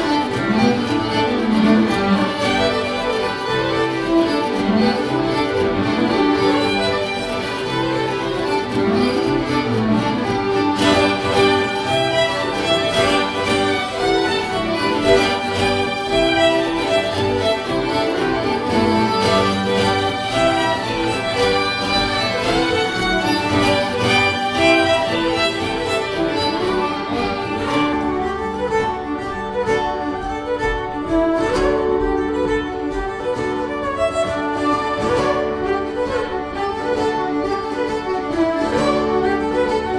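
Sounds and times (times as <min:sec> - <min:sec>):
fiddles playing: 0:00.0 - 0:39.9
strummed acoustic guitar: 0:00.0 - 0:39.9.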